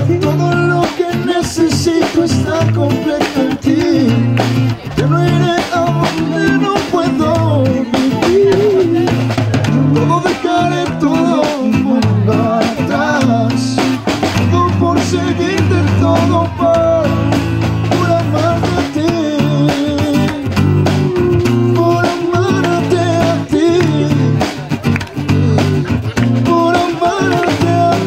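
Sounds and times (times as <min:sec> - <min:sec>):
acoustic guitar: 0:00.0 - 0:28.0
drums keeping steady beat: 0:00.0 - 0:28.0
live band playing worship song: 0:00.0 - 0:28.0.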